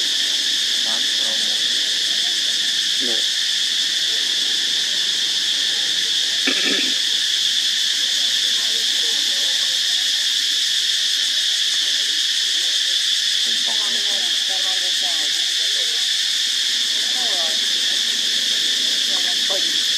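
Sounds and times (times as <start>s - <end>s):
insect chorus drone: 0.0s - 19.9s.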